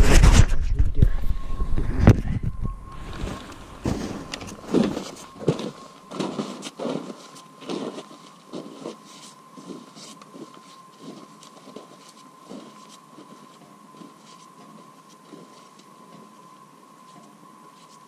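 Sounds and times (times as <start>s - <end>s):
faint high whine: 0.0s - 18.0s
footsteps crunching in snow: 1.2s - 18.0s.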